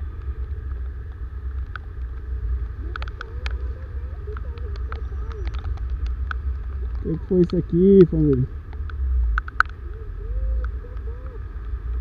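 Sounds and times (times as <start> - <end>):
motorcycle engine rumble: 0.0 - 12.0
raindrops ticking on camera: 0.1 - 10.0.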